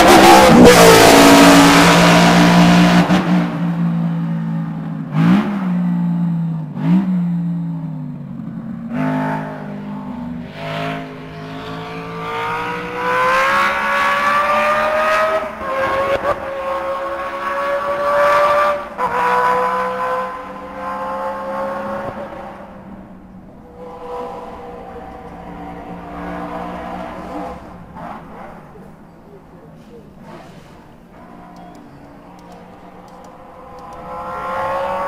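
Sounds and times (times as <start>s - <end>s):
racing car engine revving: 0.0s - 35.0s.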